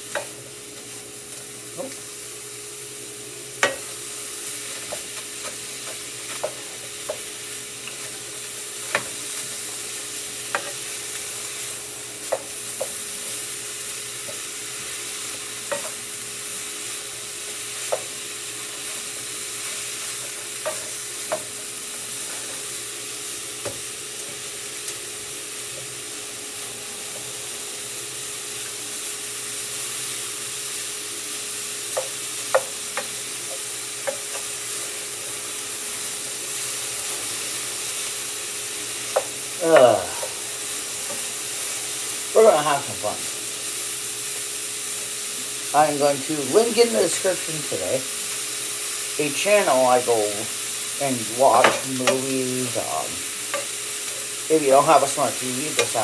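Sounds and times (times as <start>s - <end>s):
meat sizzling in frying pan: 0.0s - 56.0s.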